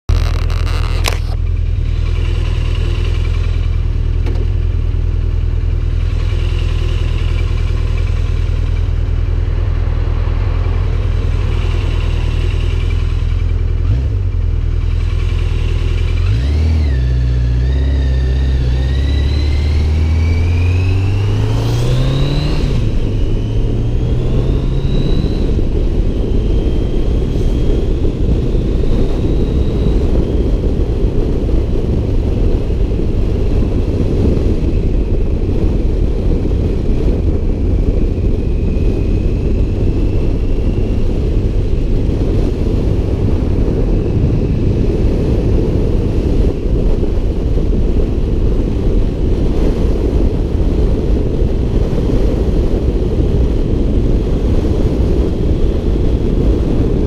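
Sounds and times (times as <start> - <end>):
motorcycle engine: 0.0 - 57.0
wind noise on microphone: 0.0 - 57.0.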